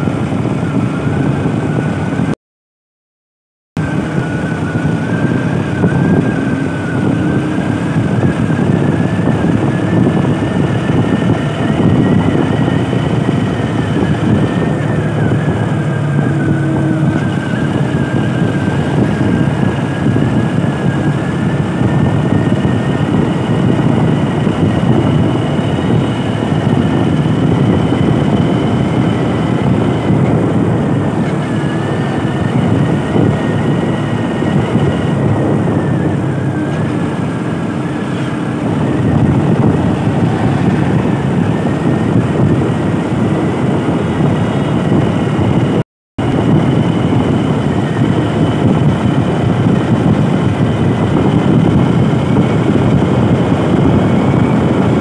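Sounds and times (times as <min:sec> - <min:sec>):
wind and road noise: 0:00.0 - 0:02.4, 0:03.8 - 0:55.0
motorcycle engine running: 0:03.8 - 0:55.0
thin wavering high whine: 0:03.8 - 0:55.0.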